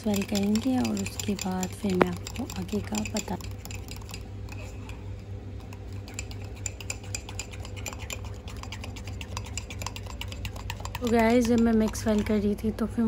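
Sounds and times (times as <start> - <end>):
spoon stirring batter in a mug: 0.0 - 13.0.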